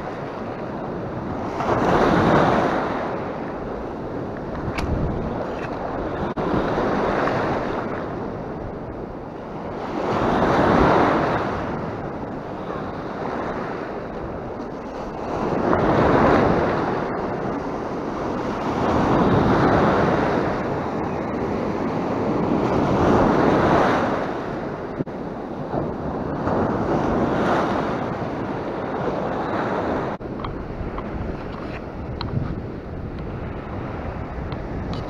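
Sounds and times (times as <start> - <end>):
sea waves breaking over rocks: 0.0 - 35.0
wind buffeting microphone: 0.0 - 35.0.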